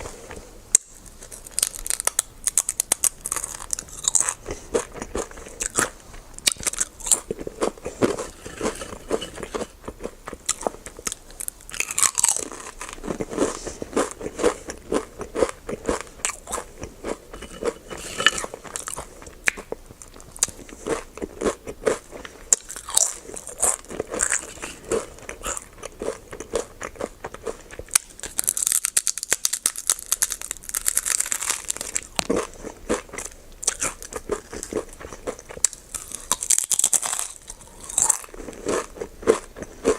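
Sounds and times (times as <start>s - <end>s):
crunching snack: 0.0s - 39.9s.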